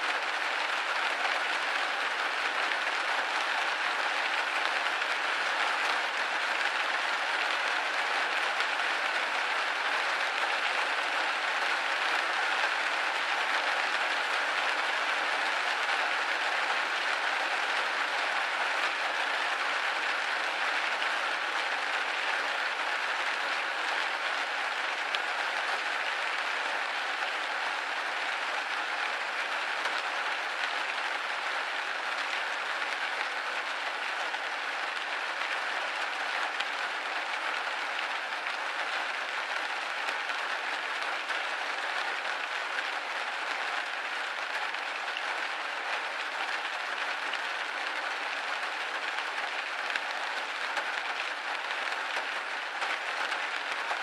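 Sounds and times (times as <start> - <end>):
rain pattering on a window: 0.0 - 54.0.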